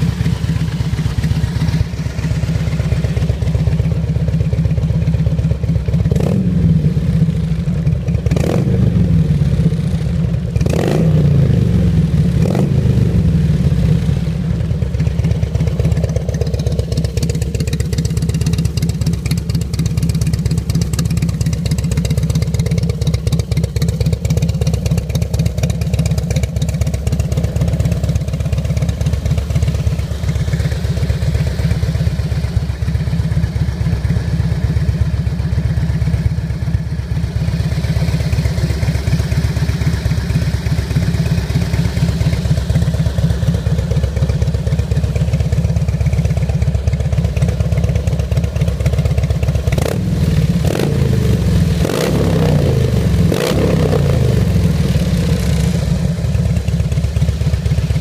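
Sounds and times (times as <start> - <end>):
motorcycle engine idling loudly: 0.0 - 58.0.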